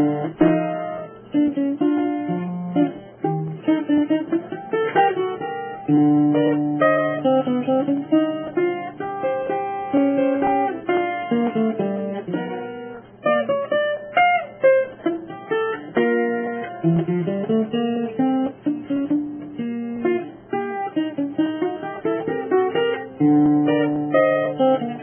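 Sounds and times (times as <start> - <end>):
plucked guitar tune: 0.0 - 25.0.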